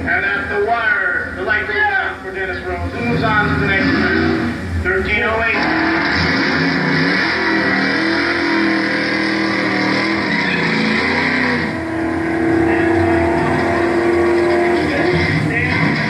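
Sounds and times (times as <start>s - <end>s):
engine running hard: 0.0s - 16.0s.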